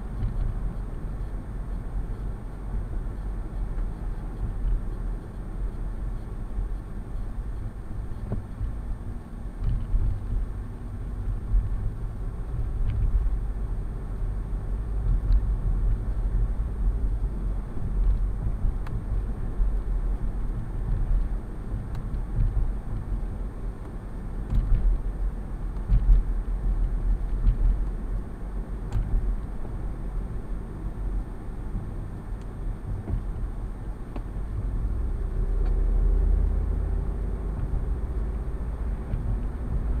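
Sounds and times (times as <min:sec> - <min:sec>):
car driving rumble: 0:00.0 - 0:40.0.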